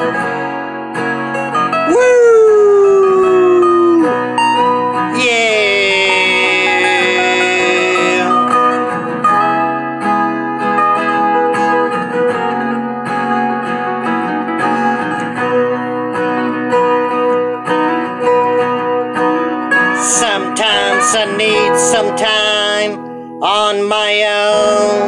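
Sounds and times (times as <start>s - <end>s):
lead guitar playing: 0.0s - 25.0s.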